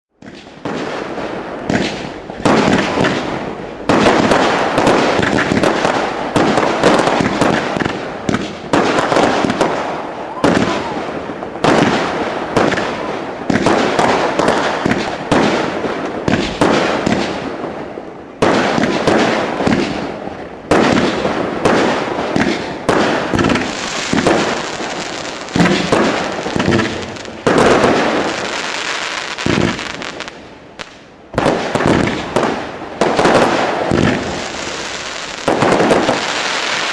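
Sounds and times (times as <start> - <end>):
firecrackers crackling: 0.2 - 36.9
fireworks bangs: 0.2 - 36.9.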